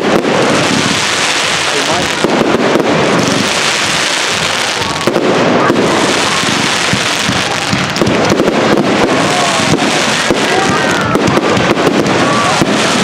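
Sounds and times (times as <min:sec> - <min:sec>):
fireworks pops and bangs: 0:00.0 - 0:13.0.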